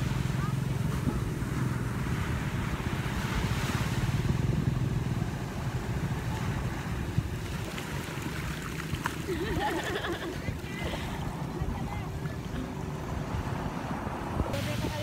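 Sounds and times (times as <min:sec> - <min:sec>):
small waves washing over sand: 0:00.0 - 0:15.0.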